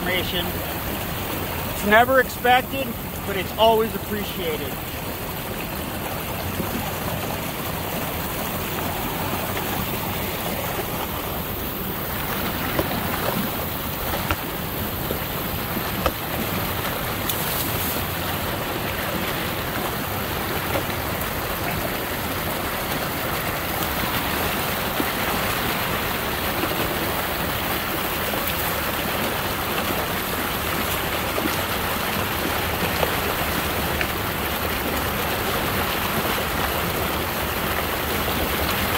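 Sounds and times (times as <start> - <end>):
water gushing from a drain pipe: 0.0 - 38.9.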